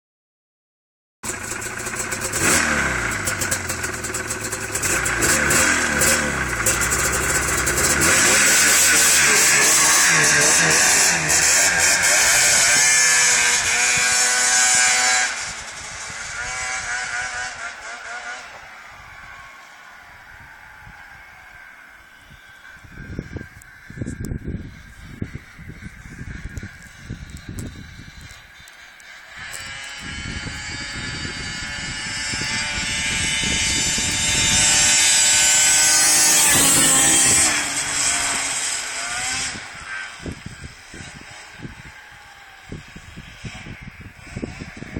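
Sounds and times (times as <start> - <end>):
snowmobile engine revving: 1.2 - 28.3, 29.0 - 44.9.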